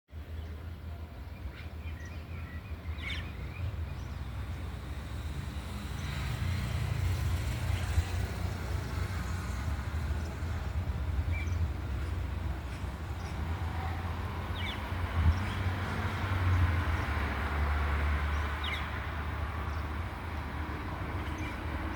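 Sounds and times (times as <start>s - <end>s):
distant jet engines rumbling: 2.9s - 21.9s.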